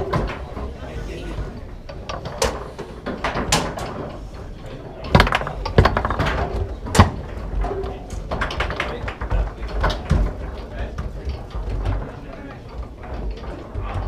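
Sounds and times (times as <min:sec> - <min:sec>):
foosball ball clacks: 0:00.0 - 0:00.9, 0:01.7 - 0:12.2
foosball rods rattling: 0:00.0 - 0:14.0.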